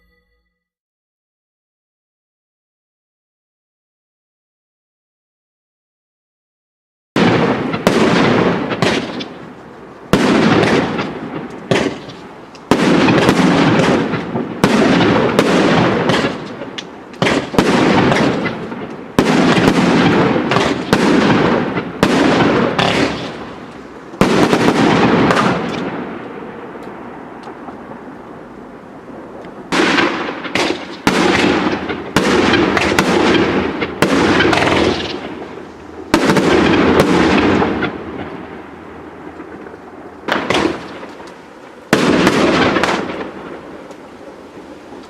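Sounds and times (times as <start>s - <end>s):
fireworks banging: 7.2s - 45.0s.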